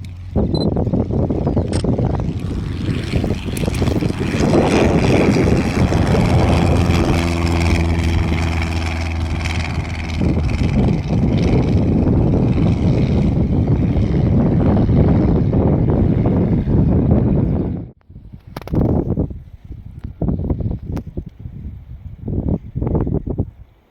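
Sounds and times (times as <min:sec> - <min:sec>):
propeller aircraft engine running: 0:00.0 - 0:19.6.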